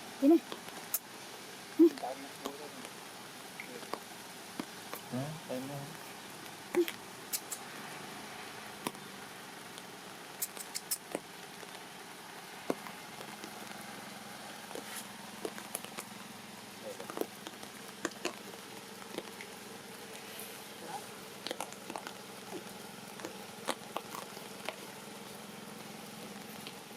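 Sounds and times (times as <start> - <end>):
light rain hiss: 0.0 - 26.9
rain drips and taps: 0.1 - 26.9.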